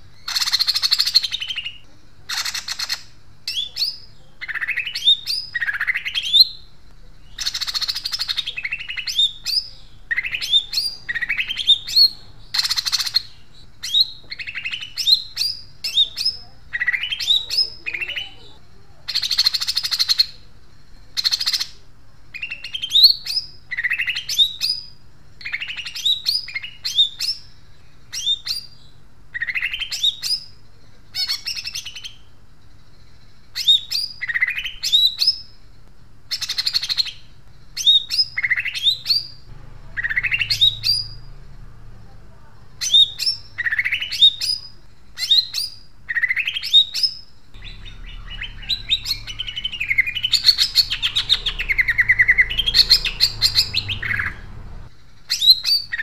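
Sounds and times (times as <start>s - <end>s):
bird singing chattering notes: 0.0s - 35.6s, 36.3s - 56.0s
harsh bird rasps: 0.0s - 35.6s, 36.3s - 56.0s.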